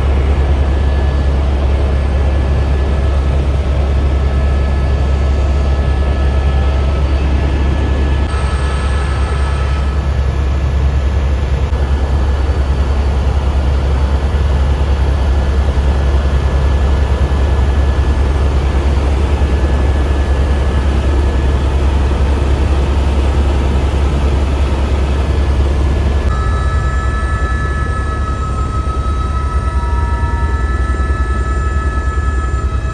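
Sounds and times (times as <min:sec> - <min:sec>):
helicopter engine and rotors: 0:00.0 - 0:32.9
high-pitched whine: 0:00.0 - 0:32.9.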